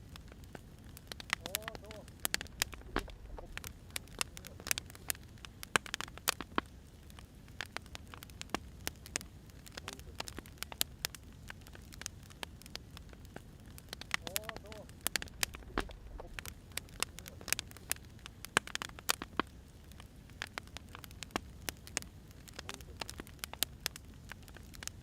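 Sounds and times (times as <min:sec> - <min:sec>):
low rumble of burning logs: 0:00.0 - 0:25.0
wood fire pops and snaps: 0:00.0 - 0:25.0.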